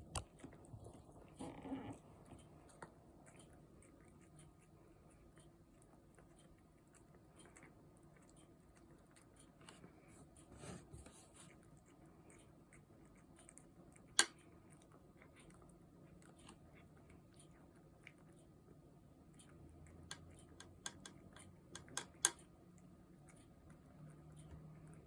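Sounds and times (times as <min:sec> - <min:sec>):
cat chewing clicks: 0:00.1 - 0:01.4, 0:02.0 - 0:10.0, 0:11.5 - 0:25.0.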